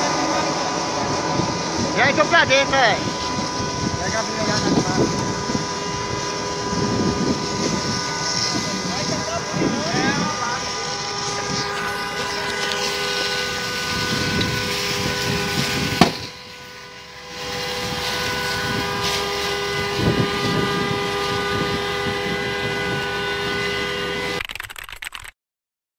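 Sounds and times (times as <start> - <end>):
fire pump engine whining: 0.0 - 25.3.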